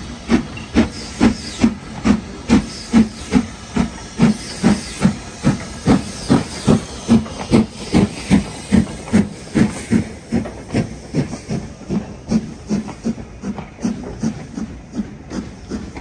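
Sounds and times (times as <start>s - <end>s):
steam hissing: 0.0s - 16.0s
steam locomotive exhaust chuffs: 0.0s - 16.0s.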